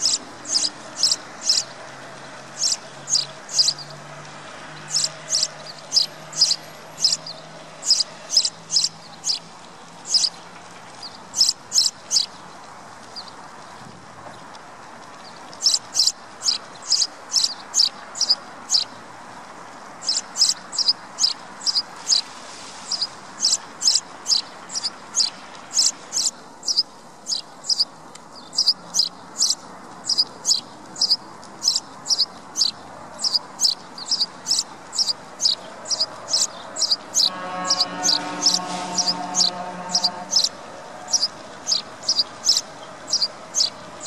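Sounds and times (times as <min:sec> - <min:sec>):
sparrow chirping: 0:00.0 - 0:01.7, 0:02.5 - 0:04.0, 0:04.8 - 0:09.4, 0:10.0 - 0:10.3, 0:11.0 - 0:12.4, 0:15.6 - 0:19.0, 0:20.0 - 0:44.0.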